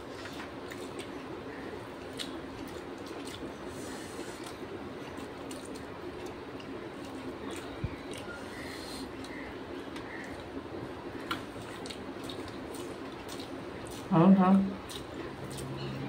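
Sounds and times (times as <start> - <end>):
fingers squishing rice and curry: 0.0 - 14.1, 14.7 - 16.0
low steady hum: 0.0 - 16.0.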